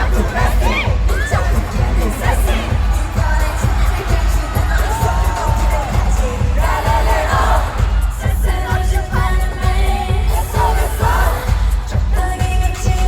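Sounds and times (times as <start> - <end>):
pounding bass beat: 0.0 - 13.0
woman singing: 0.0 - 13.0.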